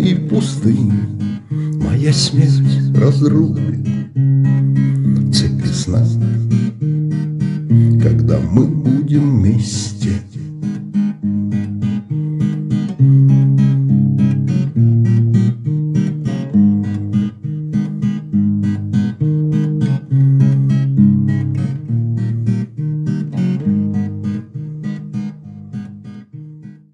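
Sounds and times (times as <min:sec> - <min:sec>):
acoustic guitar strummed: 0:00.0 - 0:26.9.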